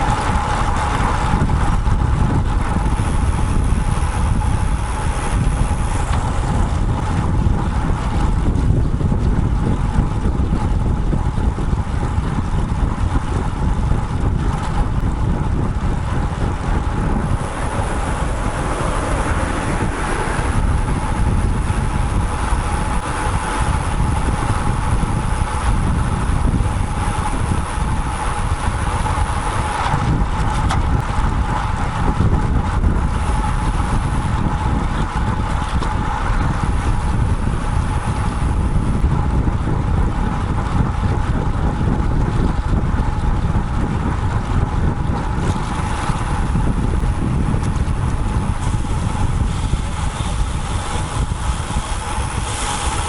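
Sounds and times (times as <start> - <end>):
passing traffic: 0.0 - 53.0
wind buffeting microphone: 0.0 - 53.0.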